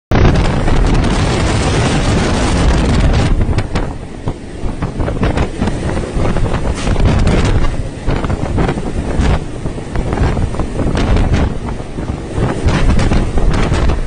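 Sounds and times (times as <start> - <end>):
storm wind buffeting microphone: 0.1 - 14.0.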